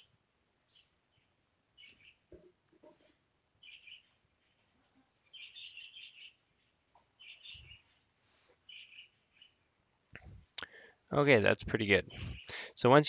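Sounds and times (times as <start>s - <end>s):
small bird chirping faintly: 0.0s - 10.7s.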